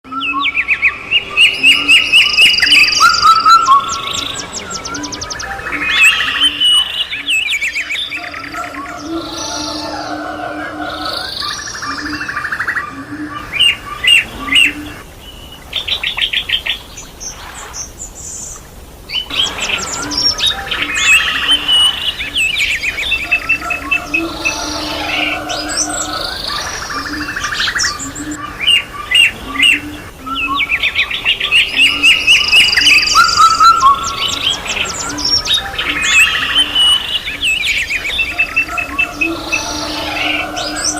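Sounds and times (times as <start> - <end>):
birds singing and chirping: 0.1 - 40.9.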